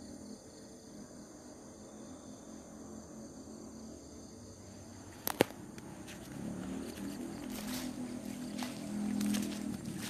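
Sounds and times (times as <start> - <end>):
insects chirring: 0.0 - 10.0
low outdoor rumble: 0.0 - 10.0.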